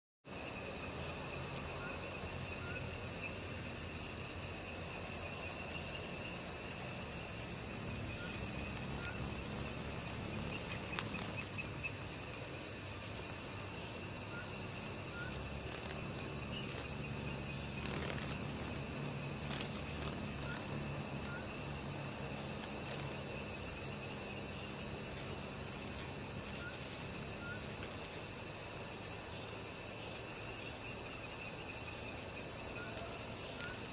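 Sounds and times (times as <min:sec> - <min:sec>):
insects chirping and trilling: 0:00.3 - 0:33.9.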